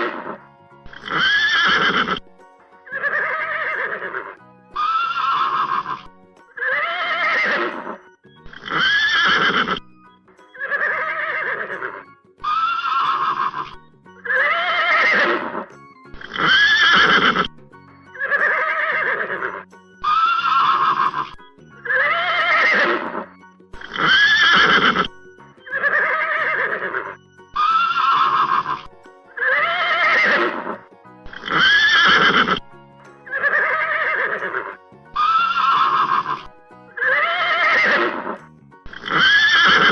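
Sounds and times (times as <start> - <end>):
horse whinnying: 0.0 - 2.2, 2.9 - 9.9, 10.5 - 17.5, 18.1 - 39.9.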